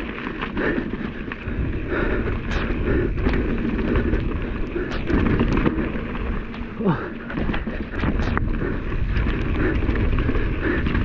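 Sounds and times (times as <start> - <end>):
bike clicks and rattles: 0.0 - 11.0
tyres rumbling over dirt: 0.0 - 11.0.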